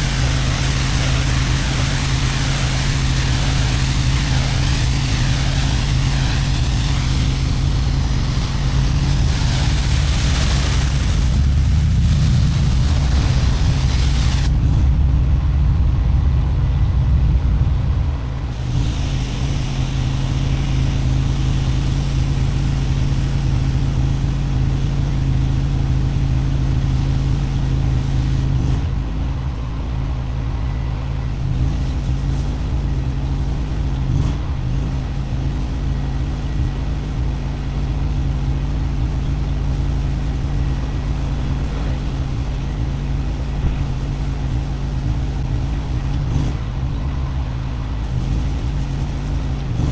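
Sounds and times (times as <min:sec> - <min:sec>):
high-pressure water spray hissing: 0:00.0 - 0:14.8, 0:18.5 - 0:28.9, 0:31.3 - 0:49.9
pressure washer engine running: 0:00.0 - 0:15.2, 0:18.4 - 0:29.0, 0:30.7 - 0:49.9.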